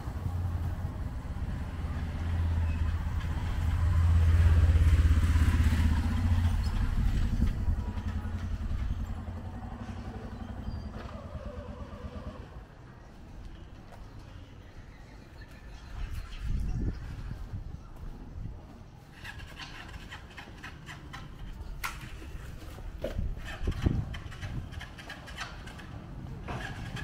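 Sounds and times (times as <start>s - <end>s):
auto-rickshaw engine passing: 0.0s - 17.3s, 19.0s - 27.0s.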